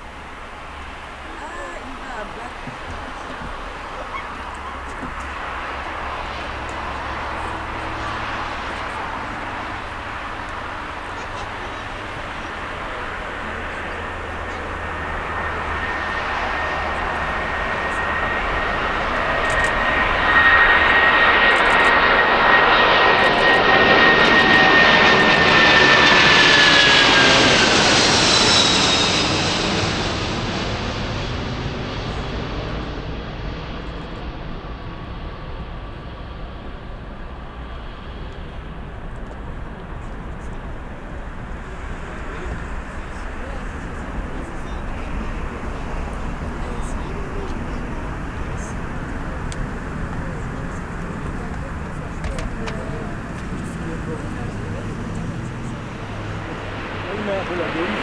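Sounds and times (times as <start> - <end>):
airplane passing by: 0.0 - 58.0
high engine whine: 0.0 - 58.0.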